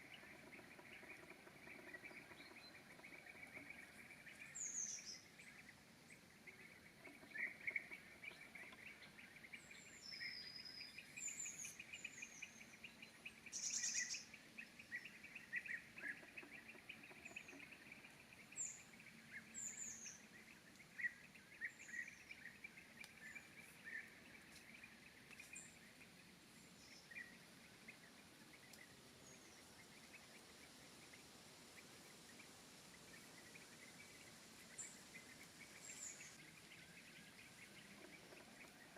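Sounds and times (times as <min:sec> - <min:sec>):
bird chatter: 0:00.0 - 0:38.9
small birds calling: 0:00.0 - 0:38.9.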